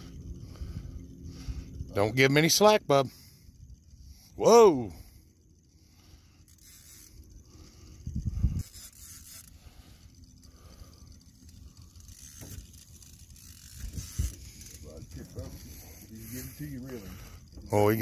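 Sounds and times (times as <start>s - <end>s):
fishing reel drag buzzing: 0.0s - 18.0s.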